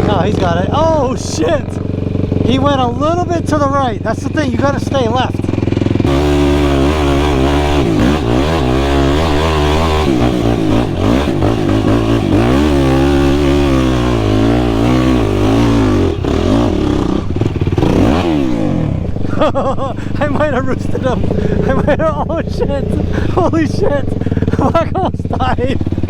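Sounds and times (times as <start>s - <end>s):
quad engine revving: 0.0s - 26.0s.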